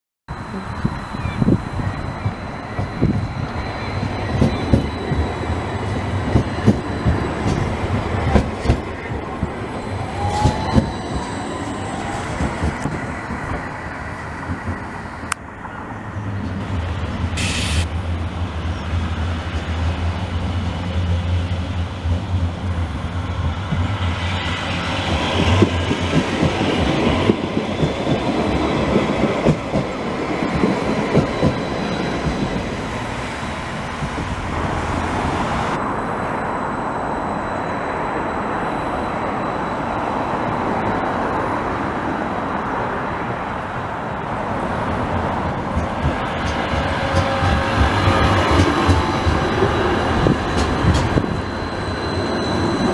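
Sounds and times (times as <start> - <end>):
tram wheels rumbling on rails: 0.3 - 52.9.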